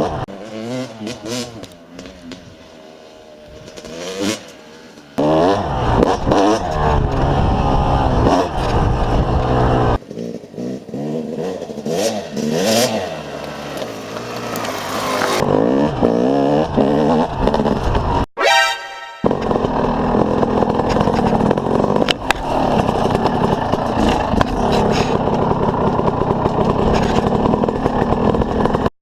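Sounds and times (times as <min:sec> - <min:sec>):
motocross bike engine revving: 0:00.0 - 0:18.3, 0:19.2 - 0:28.9.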